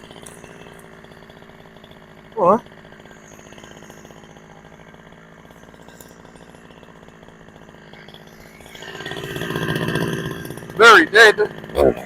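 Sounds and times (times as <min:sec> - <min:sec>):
chainsaw idling: 0:00.0 - 0:12.0.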